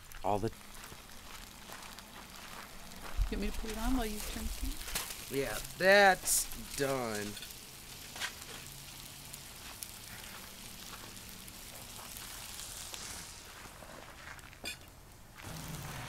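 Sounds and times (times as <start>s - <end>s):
fish sizzling in a pan: 0.0s - 14.8s, 15.4s - 16.0s.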